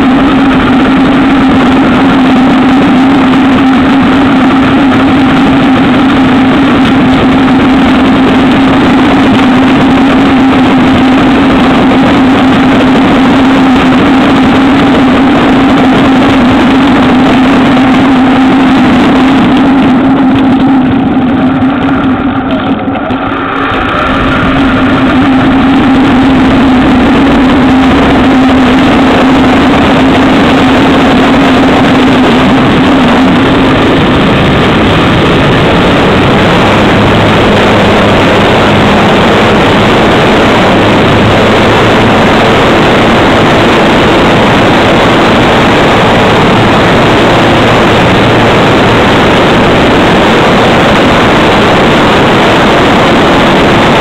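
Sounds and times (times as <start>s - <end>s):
model plane electric motor: 0.0s - 51.4s
wind rushing on microphone: 0.0s - 54.0s.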